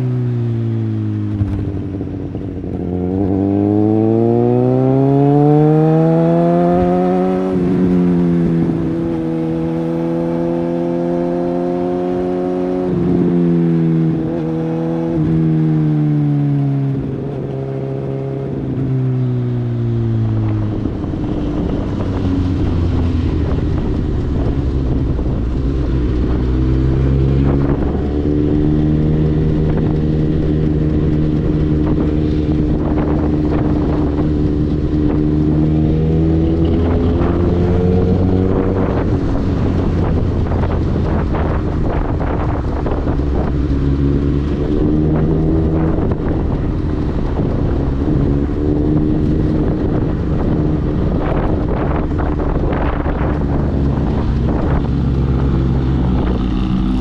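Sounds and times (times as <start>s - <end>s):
motorcycle engine revving: 0.0s - 57.0s
wind rushing over microphone: 0.0s - 57.0s.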